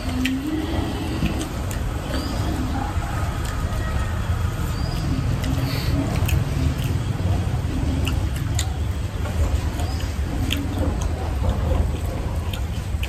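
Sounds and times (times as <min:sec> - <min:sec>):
mouth clicks and squeaks: 0:00.0 - 0:13.0
wet chewing and lip smacks: 0:00.0 - 0:13.0.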